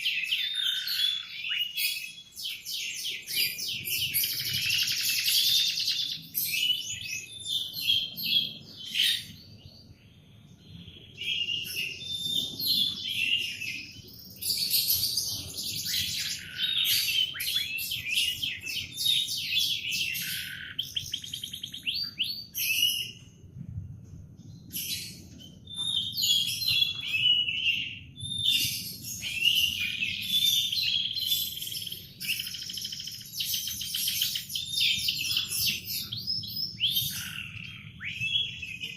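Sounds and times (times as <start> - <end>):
canary singing: 0.0 - 23.2, 24.8 - 38.9.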